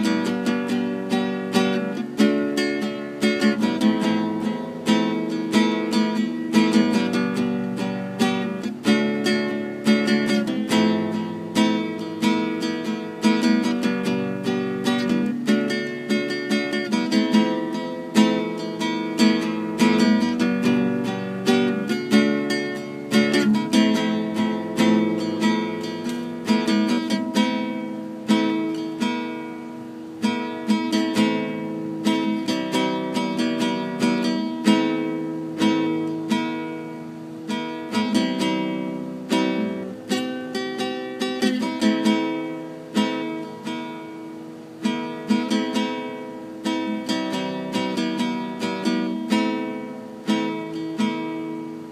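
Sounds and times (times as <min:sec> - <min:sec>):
acoustic guitar: 0:00.0 - 0:51.9.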